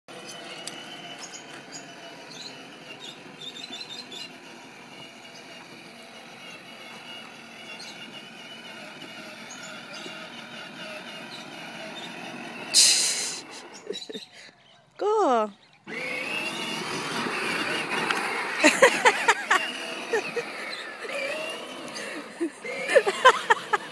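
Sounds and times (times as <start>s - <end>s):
plastic wheels rolling on grass: 0.1s - 14.1s, 15.8s - 23.9s
toy electric motor whine: 0.1s - 14.4s, 15.6s - 23.9s.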